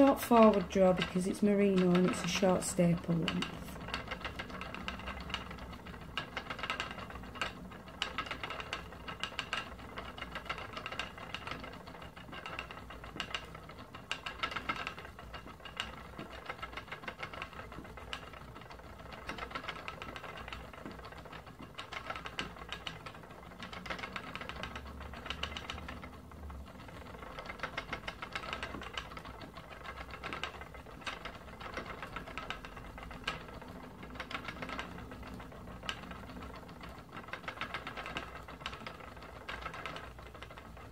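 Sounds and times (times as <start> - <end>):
spinning wheel knocking and clattering: 0.0 - 40.9.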